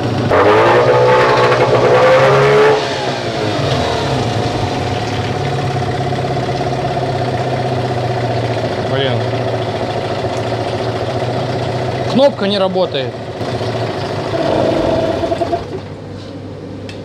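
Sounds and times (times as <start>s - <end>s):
outboard motor revving and idling: 0.0s - 15.9s.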